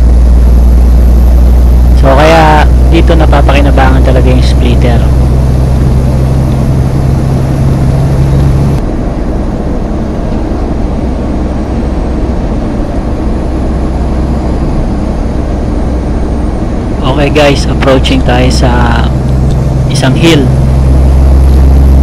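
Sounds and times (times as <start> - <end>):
road noise: 0.0 - 22.0
truck diesel engine drone: 0.0 - 22.0.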